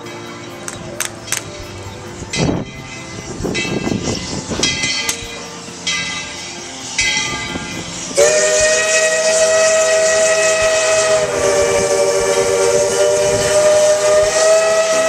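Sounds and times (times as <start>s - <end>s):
hissing steam: 0.0s - 15.0s
steam locomotive whistle: 1.3s - 15.0s.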